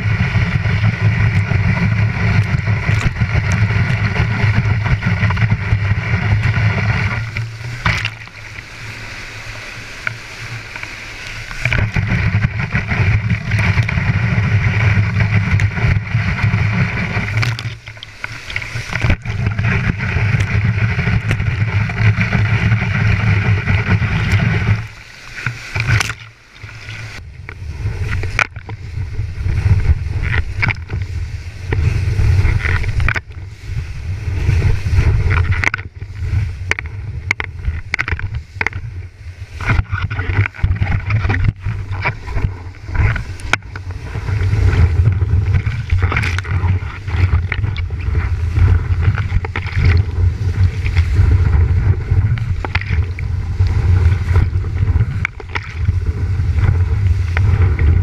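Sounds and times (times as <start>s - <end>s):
water splashing on camera housing: 0.0s - 58.0s
whitewater rushing muffled: 0.0s - 58.0s.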